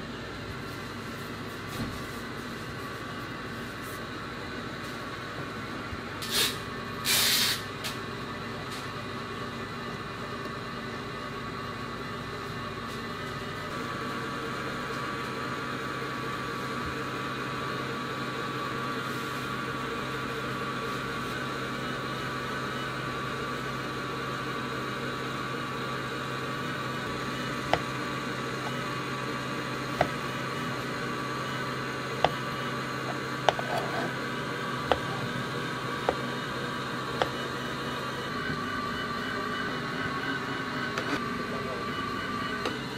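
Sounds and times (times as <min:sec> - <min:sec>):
kitchen machinery hum: 0:00.0 - 0:42.9.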